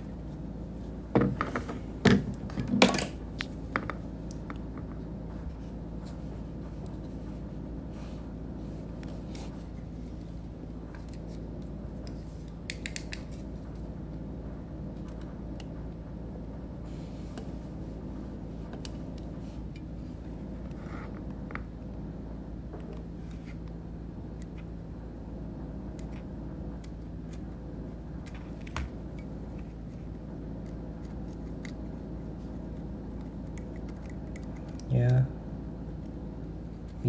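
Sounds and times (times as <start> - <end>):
low room hum: 0.0 - 37.0.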